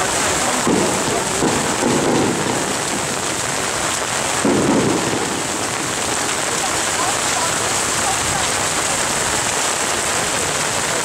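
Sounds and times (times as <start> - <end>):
heavy rain on umbrellas: 0.0 - 11.0.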